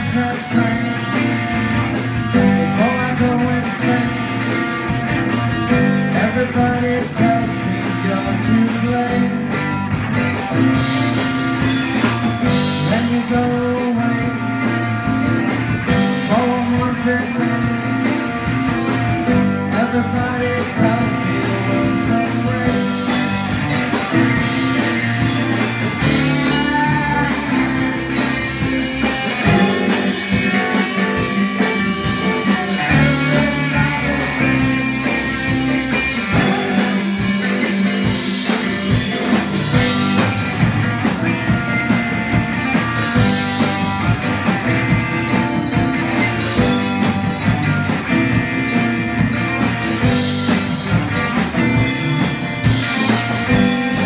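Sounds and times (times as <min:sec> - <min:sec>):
drum kit beat: 0:00.0 - 0:54.0
electric guitars: 0:00.0 - 0:54.0
keyboards: 0:00.0 - 0:54.0.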